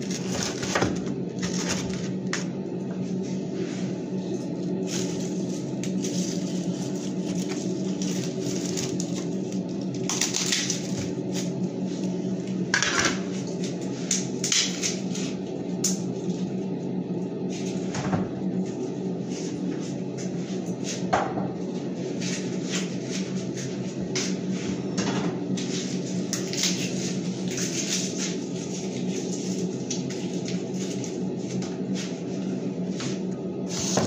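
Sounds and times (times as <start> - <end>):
kitchen appliance humming: 0.0 - 34.0.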